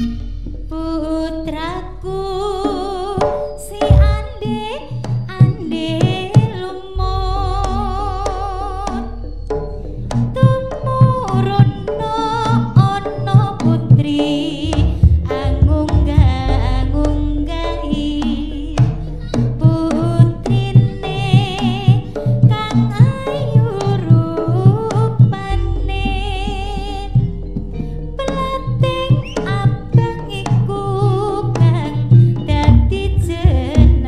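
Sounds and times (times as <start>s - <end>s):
gamelan: 0.0s - 34.0s
wavering high melody: 0.0s - 34.0s
hand drums beating: 2.6s - 34.0s.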